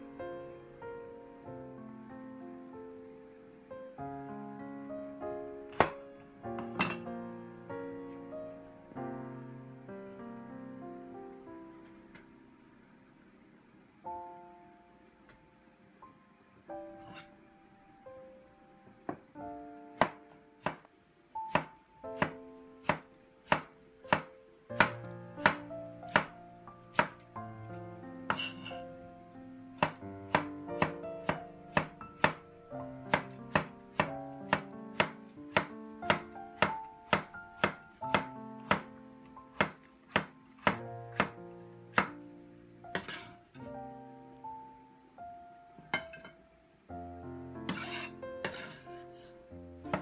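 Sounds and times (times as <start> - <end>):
background music: 0.0 - 12.9, 14.0 - 50.0.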